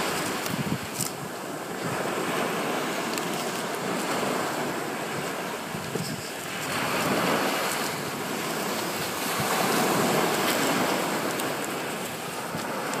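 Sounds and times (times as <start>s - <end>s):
small waves washing onto sand: 0.0s - 13.0s
wind noise on microphone: 0.0s - 13.0s.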